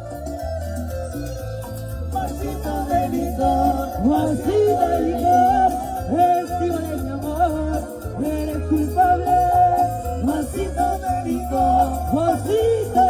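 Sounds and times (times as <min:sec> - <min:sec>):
live cumbia band playing: 0:00.0 - 0:13.0.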